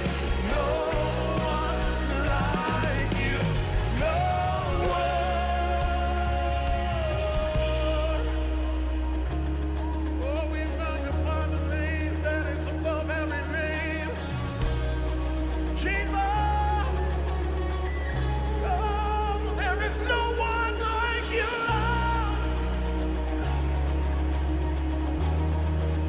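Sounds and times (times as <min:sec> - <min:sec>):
bass and keyboard chords: 0:00.0 - 0:26.0.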